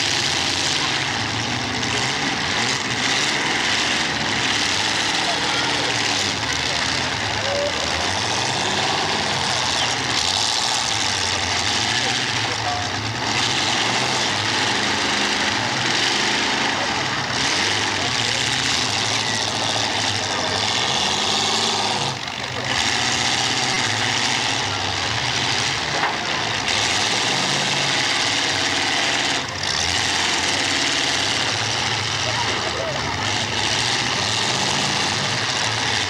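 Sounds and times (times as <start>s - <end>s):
race car engines: 0.0s - 36.0s.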